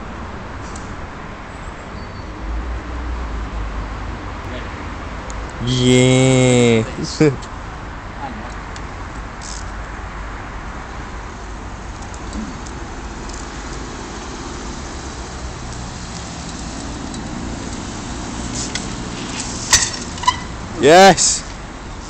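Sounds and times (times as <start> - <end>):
car passing: 0.0 - 8.2, 8.8 - 22.0
road traffic: 0.0 - 22.0.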